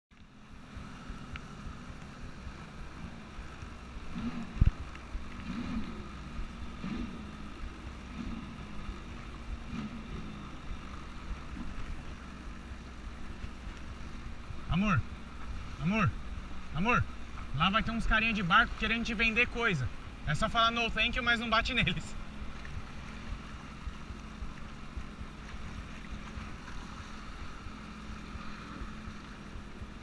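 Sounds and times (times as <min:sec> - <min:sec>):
jet ski engine hum: 0:00.1 - 0:30.0.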